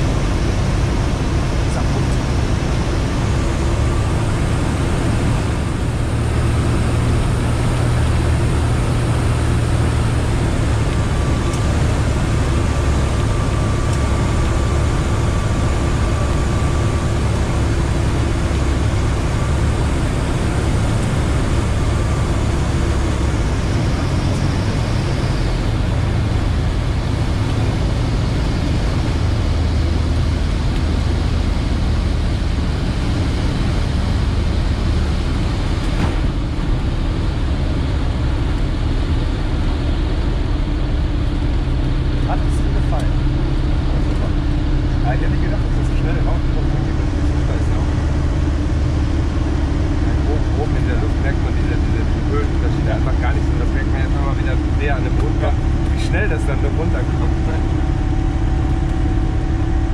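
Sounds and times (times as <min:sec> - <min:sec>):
light aircraft engine and propeller: 0:00.0 - 0:59.9.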